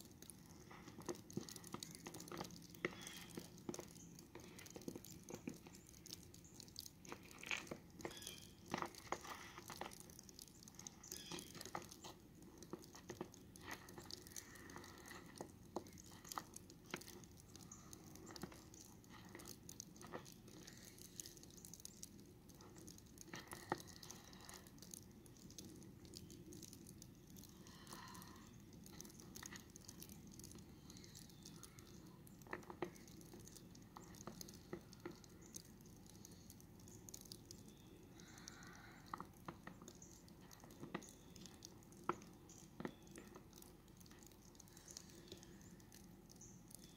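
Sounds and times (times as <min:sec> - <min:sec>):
small clicks: 0:00.0 - 0:46.9.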